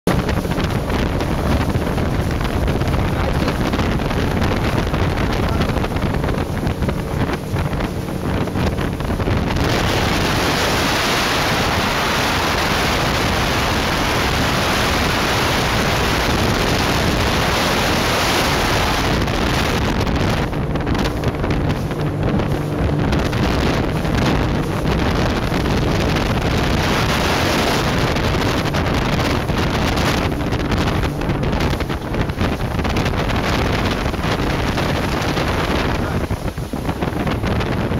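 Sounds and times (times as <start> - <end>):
outboard engine: 0.0 - 37.9
wind on microphone: 0.1 - 37.9.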